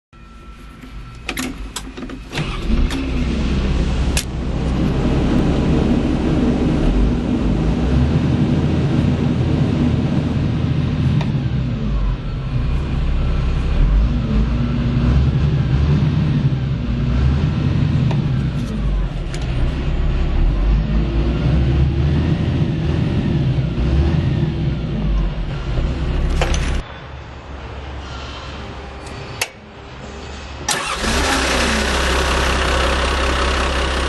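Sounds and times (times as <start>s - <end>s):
excavator diesel engine running: 0.3s - 26.8s, 30.7s - 34.0s.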